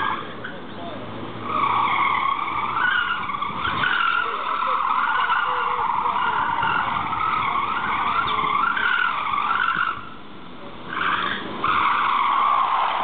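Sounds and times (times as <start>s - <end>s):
tyres squealing: 0.0s - 13.0s.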